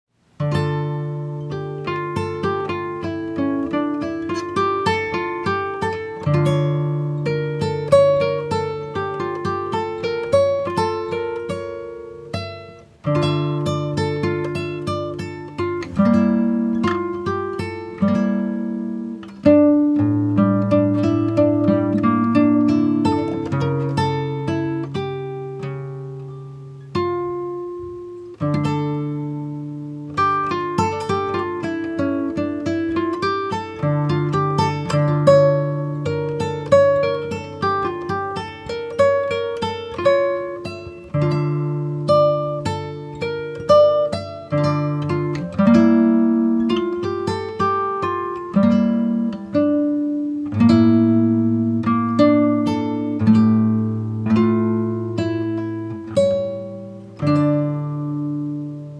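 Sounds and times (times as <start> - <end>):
plucked acoustic guitar: 0.3 - 58.9.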